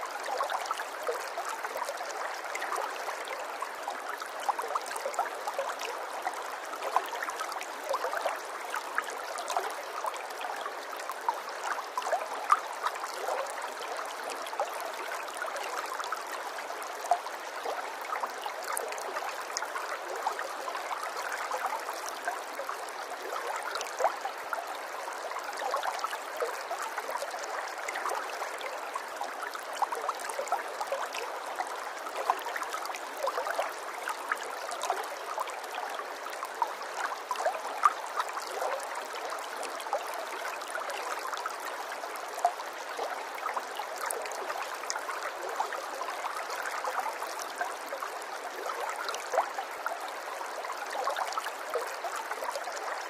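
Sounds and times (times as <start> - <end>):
water trickling and bubbling: 0.0 - 53.0.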